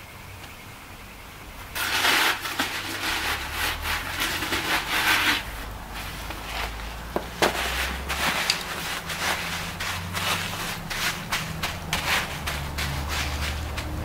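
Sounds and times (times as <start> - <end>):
gritty scraping of concrete mix: 1.6 - 14.0.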